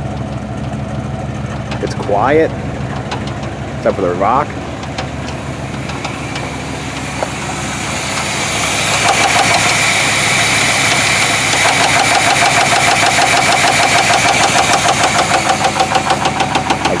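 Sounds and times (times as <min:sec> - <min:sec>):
car engine running: 0:00.0 - 0:17.0
rapid engine knock: 0:00.0 - 0:17.0.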